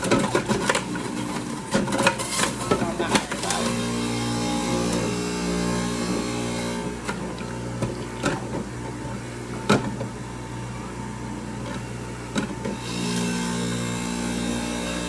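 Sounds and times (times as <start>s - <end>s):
electric juicer motor running: 0.0s - 15.0s.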